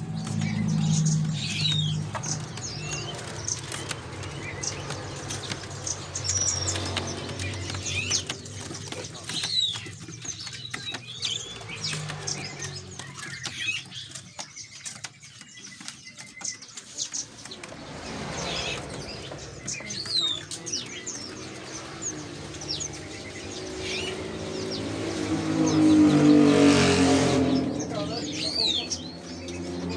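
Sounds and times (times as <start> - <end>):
wing flutters: 0.0 - 27.0
small birds chirping: 0.0 - 29.9.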